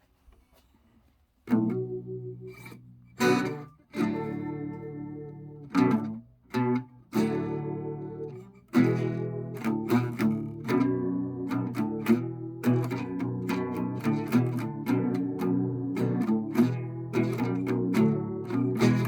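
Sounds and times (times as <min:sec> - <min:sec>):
guitar chords strummed: 0:01.5 - 0:19.0.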